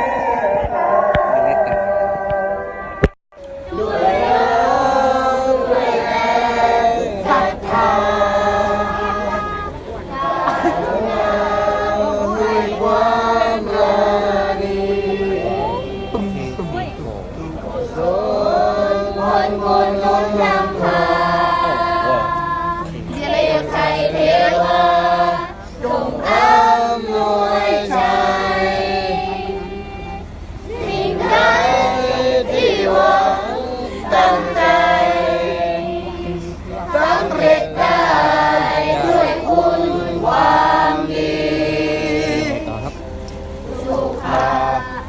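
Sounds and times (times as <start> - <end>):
voices singing together: 0.0 - 45.0.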